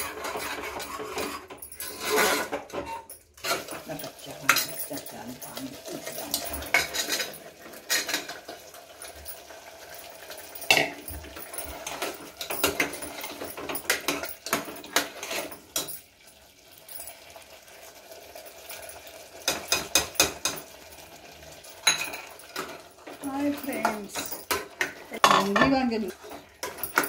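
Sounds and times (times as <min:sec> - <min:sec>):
ladle clinking and scraping pot: 0:00.0 - 0:16.1, 0:18.6 - 0:27.0.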